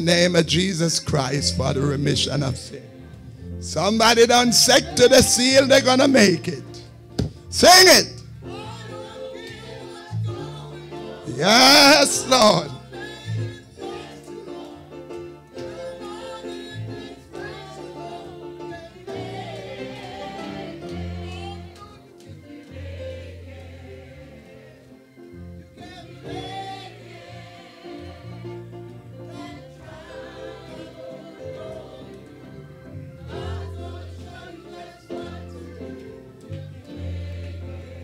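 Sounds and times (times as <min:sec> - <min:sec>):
choir singing gospel: 0:00.0 - 0:38.0.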